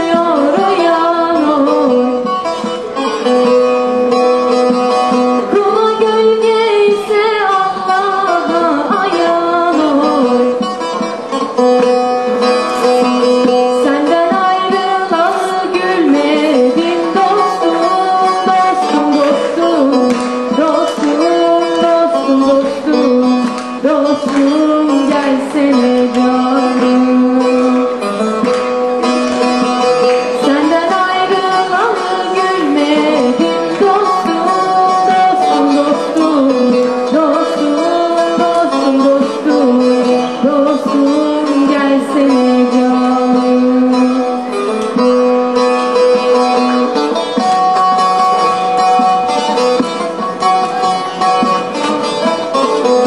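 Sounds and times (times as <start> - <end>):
plucked string instrument melody: 0.0 - 53.0
steady accompaniment: 0.0 - 53.0.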